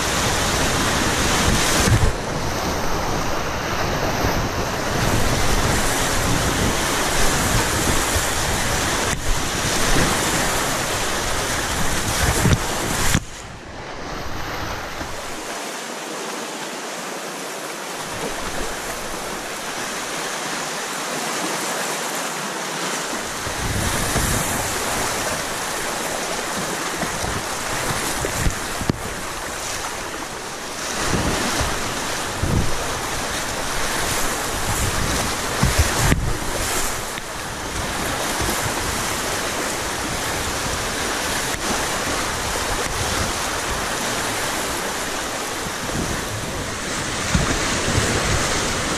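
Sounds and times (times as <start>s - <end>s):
wind buffeting microphone: 0.0s - 15.4s, 23.2s - 48.9s
rushing whitewater: 0.0s - 48.9s.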